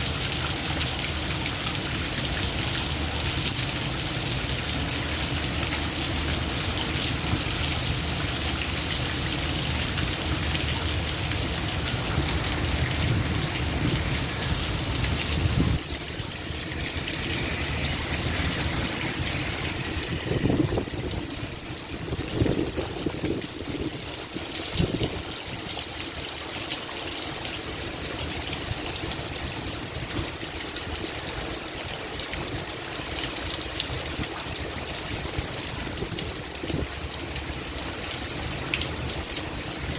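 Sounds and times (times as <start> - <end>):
heavy rain in strong wind: 0.0 - 39.9
running water: 0.0 - 39.9.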